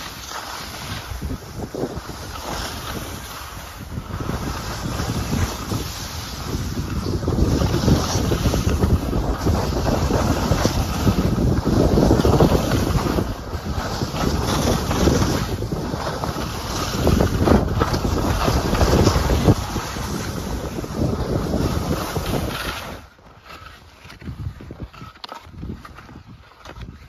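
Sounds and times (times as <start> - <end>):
wind buffeting microphone: 0.0 - 23.2, 24.0 - 27.0
skis scraping over snow: 0.0 - 27.0.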